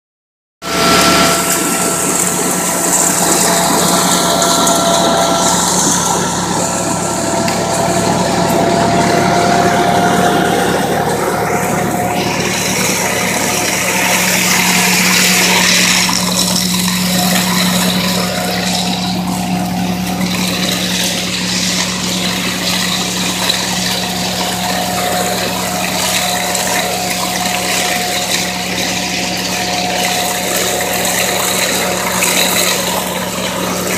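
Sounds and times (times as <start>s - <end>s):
harvesting machine running: 0.6s - 33.9s.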